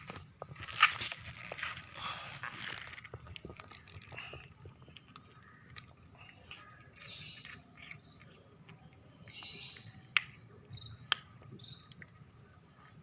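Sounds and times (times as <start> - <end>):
birds chirping: 1.4 - 13.0.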